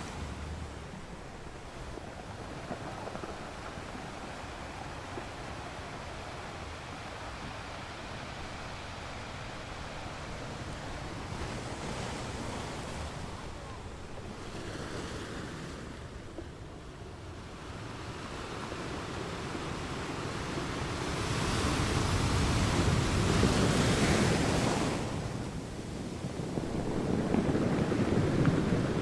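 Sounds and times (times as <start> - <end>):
ocean waves on sandy beach: 0.0 - 29.0.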